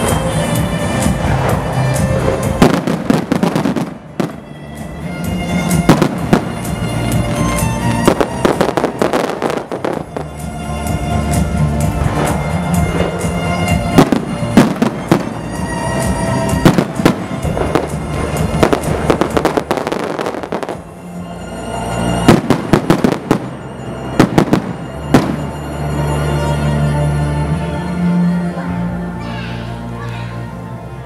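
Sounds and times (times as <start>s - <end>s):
fireworks bangs and crackle: 0.0s - 26.3s
music: 0.0s - 31.0s.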